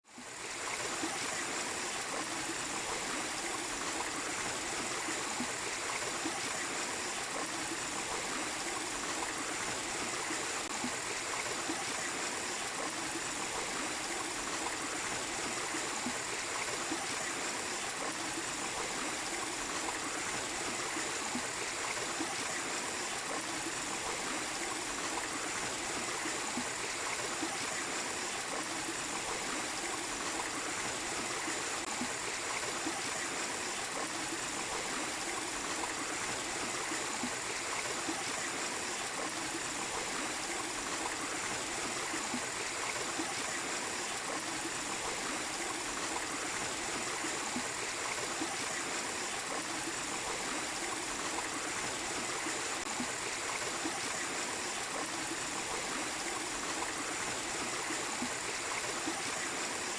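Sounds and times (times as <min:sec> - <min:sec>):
small waterfall splashing over rocks: 0:00.0 - 0:59.9.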